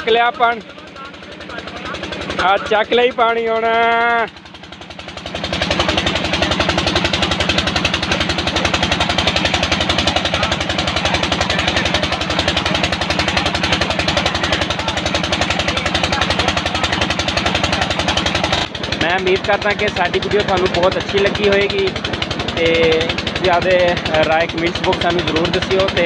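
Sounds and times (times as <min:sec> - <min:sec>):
diesel engine knocking: 0:00.0 - 0:26.0
water gushing from pipe: 0:00.0 - 0:26.0.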